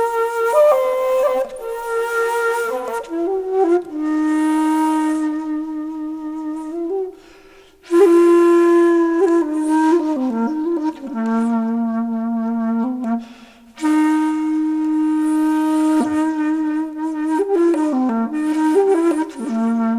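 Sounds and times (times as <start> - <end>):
flute-like wind instrument melody: 0.0 - 19.9.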